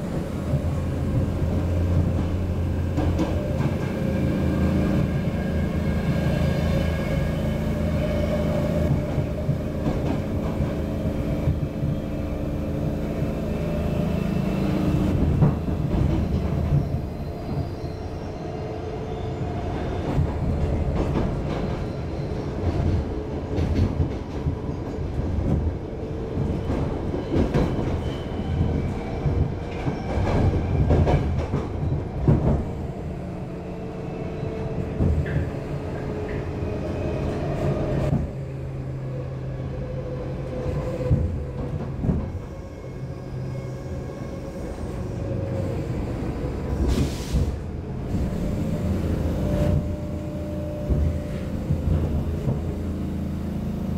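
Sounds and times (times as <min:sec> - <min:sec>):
train wheels rumbling: 0:00.0 - 0:53.9.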